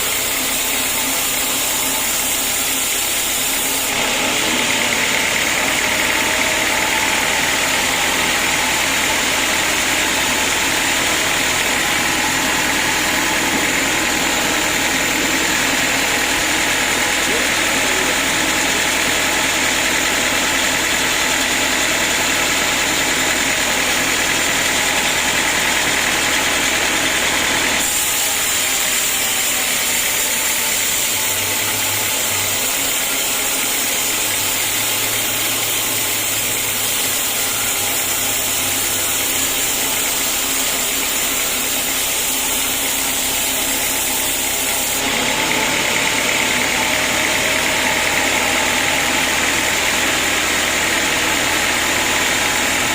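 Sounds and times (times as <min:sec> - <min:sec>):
sawmill machinery humming: 0:00.0 - 0:52.9.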